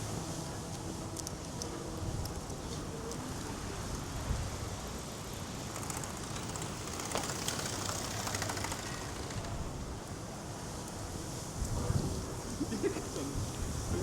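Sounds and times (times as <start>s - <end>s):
city street low hum: 0.0s - 14.0s.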